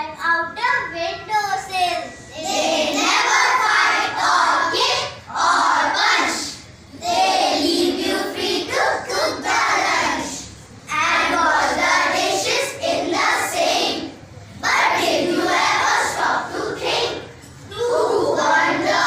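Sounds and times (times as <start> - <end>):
children speaking in unison: 1.2 - 19.0.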